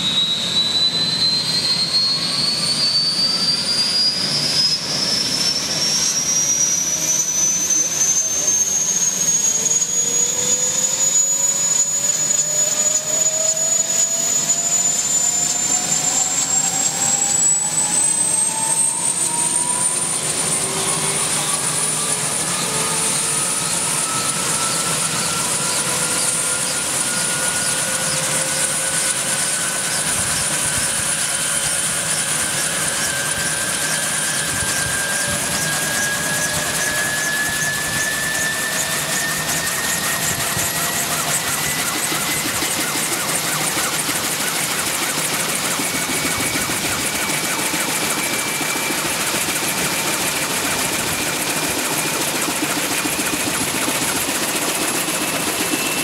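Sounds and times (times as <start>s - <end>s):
helicopter rotors: 0.0s - 56.0s
helicopter turbine whine: 0.0s - 56.0s.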